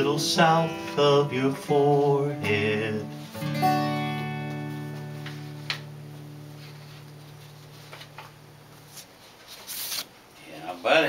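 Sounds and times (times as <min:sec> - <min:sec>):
acoustic guitar chord ringing: 0:00.0 - 0:09.0.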